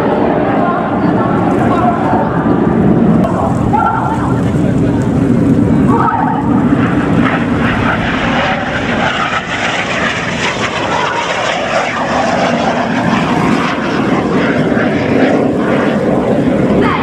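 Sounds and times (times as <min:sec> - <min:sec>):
jet aircraft flying: 0:00.0 - 0:17.0.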